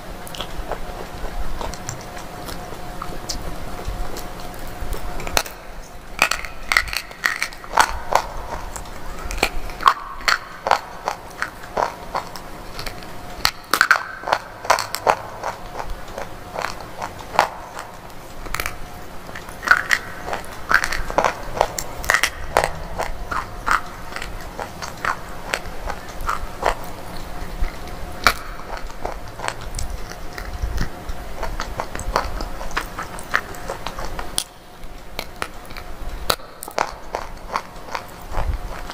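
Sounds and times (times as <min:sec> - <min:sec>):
crunchy biting and chewing: 0:00.0 - 0:38.9.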